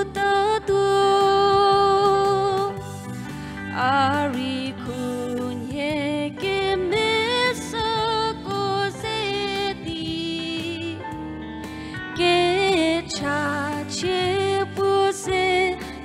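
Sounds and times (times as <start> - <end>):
woman singing: 0.0 - 3.0, 3.6 - 11.2, 11.9 - 16.0.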